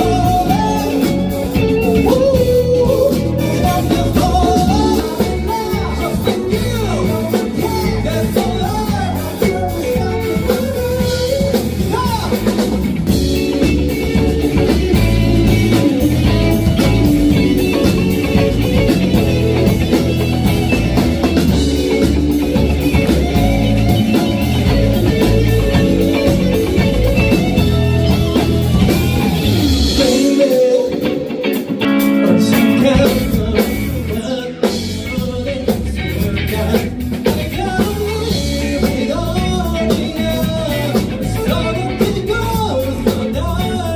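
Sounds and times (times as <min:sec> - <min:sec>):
person singing: 0:00.0 - 0:43.9
rock band playing: 0:00.0 - 0:43.9.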